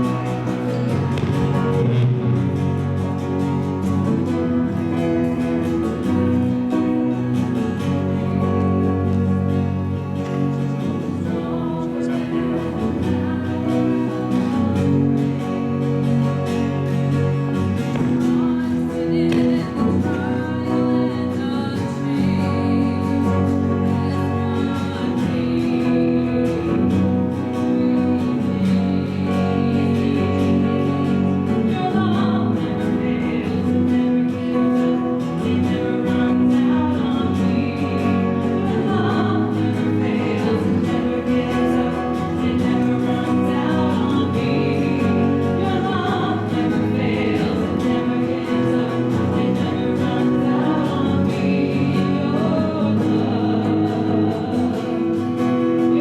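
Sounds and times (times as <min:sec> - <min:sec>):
group singing worship song: 0:00.0 - 0:56.0.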